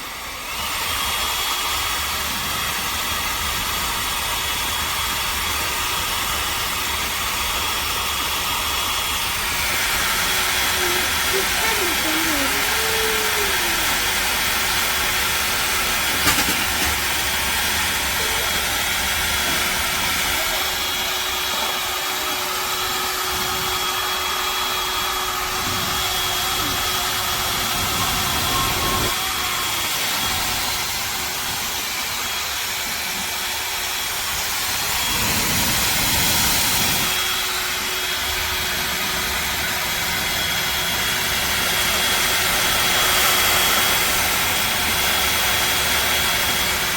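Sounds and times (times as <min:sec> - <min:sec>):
hair dryer blowing air: 0:00.0 - 0:46.9.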